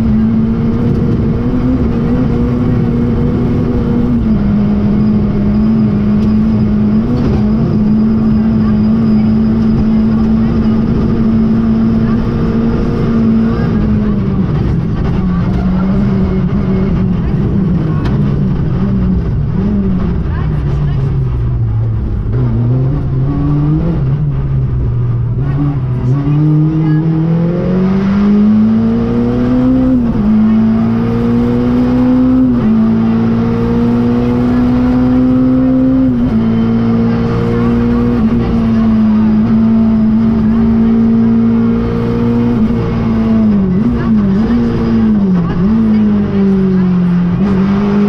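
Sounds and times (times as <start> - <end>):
car engine revving from inside cabin: 0.0 - 48.0.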